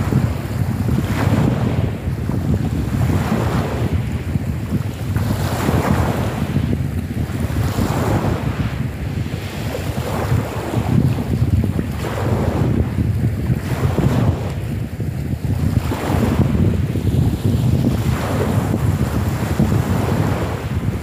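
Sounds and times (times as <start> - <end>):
waves washing over pebbles: 0.0 - 21.0
wind rumbling on microphone: 0.0 - 21.0.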